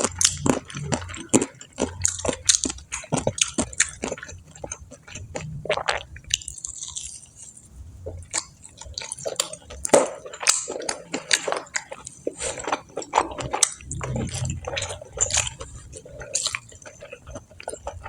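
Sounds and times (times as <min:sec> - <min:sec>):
person chewing crispy food: 0:00.0 - 0:18.0.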